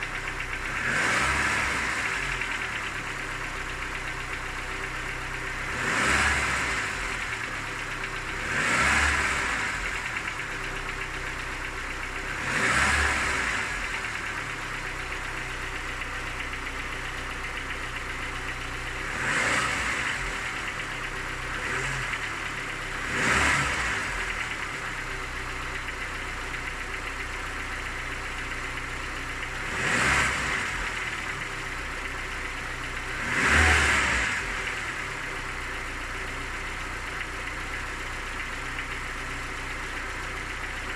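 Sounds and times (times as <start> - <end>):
car engine idling and revving: 0.0 - 40.9
engine knock: 0.0 - 40.9.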